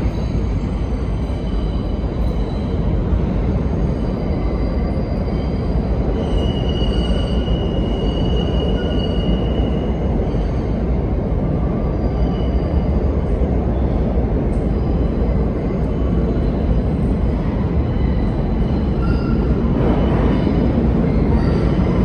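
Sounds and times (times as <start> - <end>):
subway train rumble: 0.0 - 22.0
wheels squealing on rail: 0.0 - 22.0.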